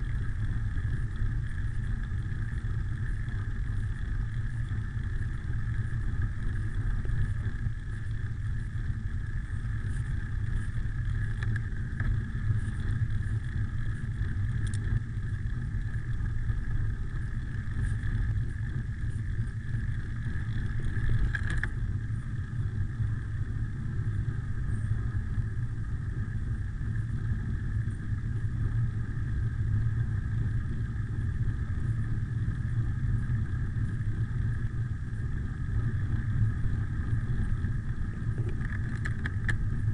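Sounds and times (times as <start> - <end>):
bicycle tyre rumble: 0.0 - 39.9
faint high whine: 0.0 - 39.9.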